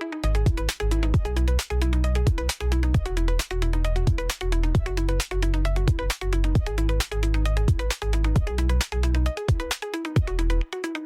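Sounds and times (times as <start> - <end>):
electronic dance music: 0.3 - 11.0.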